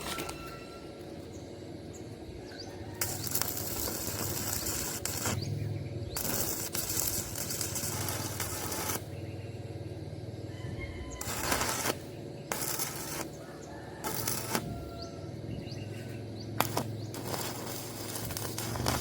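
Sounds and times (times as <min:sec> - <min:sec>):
welding arc crackling and hissing: 0:01.8 - 0:19.0.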